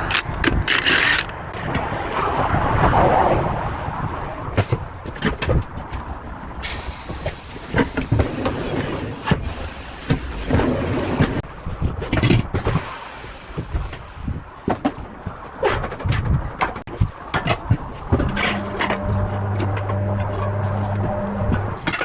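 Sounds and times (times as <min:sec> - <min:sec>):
traffic rumble: 0:01.3 - 0:22.0.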